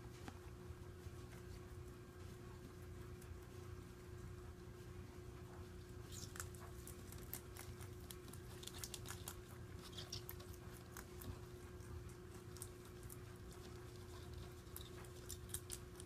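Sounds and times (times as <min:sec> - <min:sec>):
rabbit chewing greens: 0:00.0 - 0:16.0.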